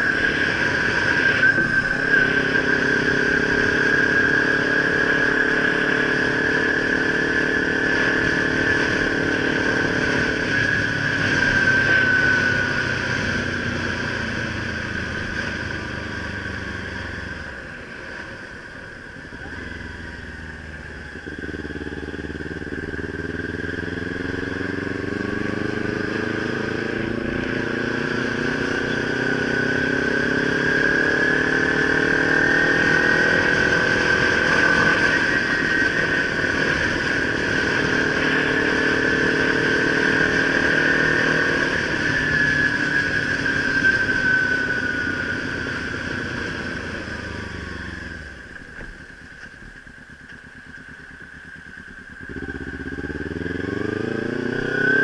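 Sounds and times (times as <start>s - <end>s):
motorcycle engine while riding: 0.0s - 55.0s.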